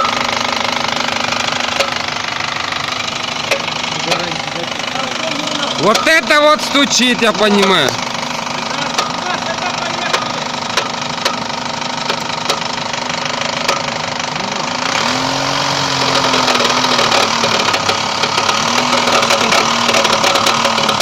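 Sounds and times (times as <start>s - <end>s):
car engine knocking: 0.0s - 21.0s.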